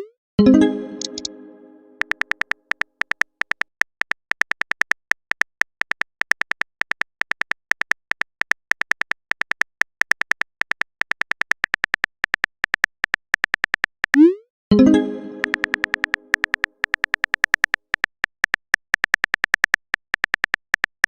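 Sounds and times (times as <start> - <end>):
keyboard tap clicks: 1.0 - 1.3, 2.0 - 14.2, 15.4 - 21.0.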